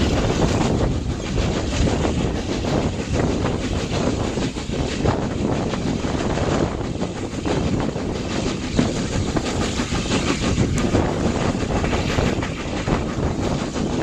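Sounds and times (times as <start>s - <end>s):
train running noise: 0.0s - 14.0s
wheels clattering on rails: 0.0s - 14.0s.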